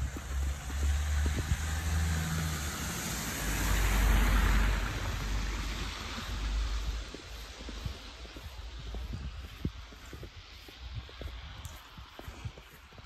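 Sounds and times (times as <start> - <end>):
car passing with tyre hiss: 0.0 - 13.0
footsteps in snow: 0.0 - 13.0.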